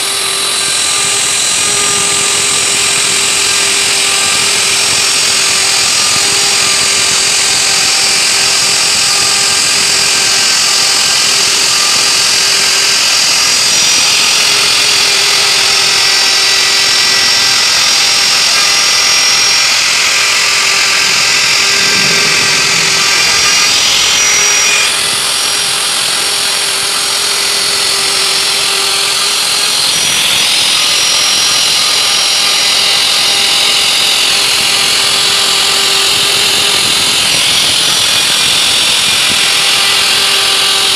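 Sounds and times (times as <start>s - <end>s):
electric router whining and cutting wood: 0.0s - 40.9s.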